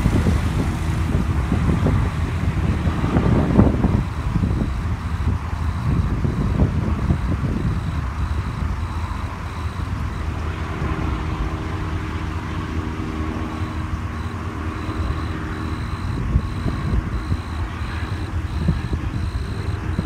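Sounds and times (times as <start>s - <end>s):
helicopter rotor rumble: 0.0s - 20.0s.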